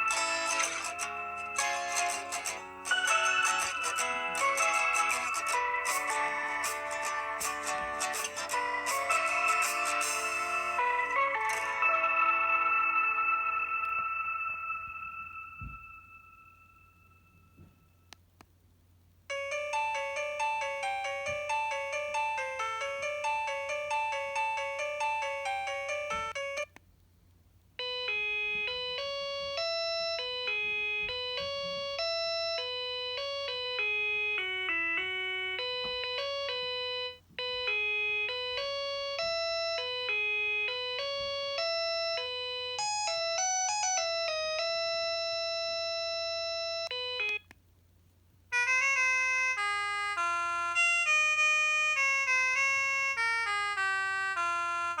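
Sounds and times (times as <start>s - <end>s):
electronic phone ringtone melody: 0.0s - 17.8s, 19.3s - 26.7s, 27.8s - 47.5s, 48.5s - 55.0s.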